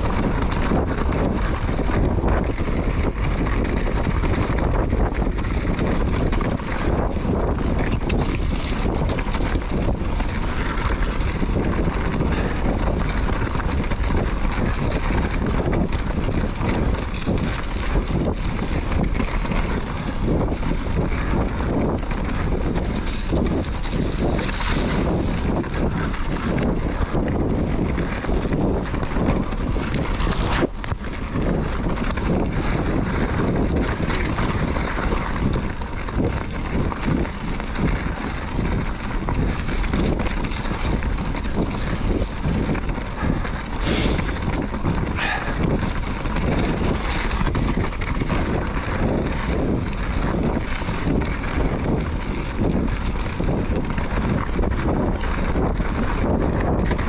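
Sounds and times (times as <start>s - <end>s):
bike tyres rumbling over stones: 0.0s - 57.0s
wind buffeting microphone: 0.0s - 57.0s.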